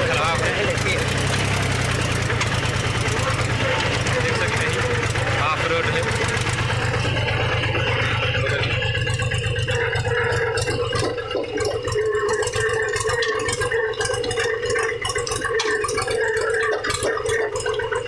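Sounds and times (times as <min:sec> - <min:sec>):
rattling and knocking: 0:00.0 - 0:17.1
tractor engine running: 0:00.0 - 0:18.0.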